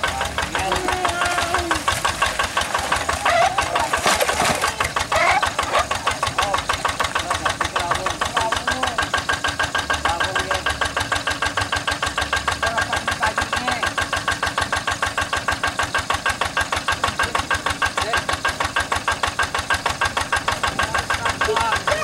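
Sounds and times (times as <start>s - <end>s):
diesel engine idling with chug: 0.0s - 22.0s.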